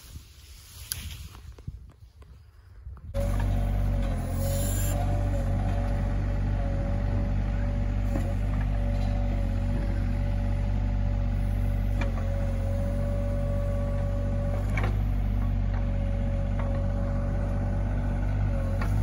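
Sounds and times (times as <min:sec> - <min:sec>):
excavator diesel engine running: 0:03.1 - 0:19.0.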